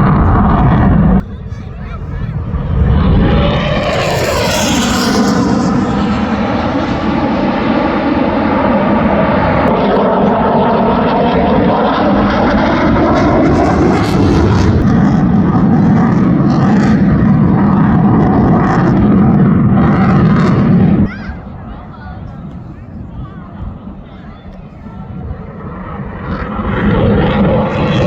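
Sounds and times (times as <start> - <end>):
jet passing overhead: 0.0 - 28.0.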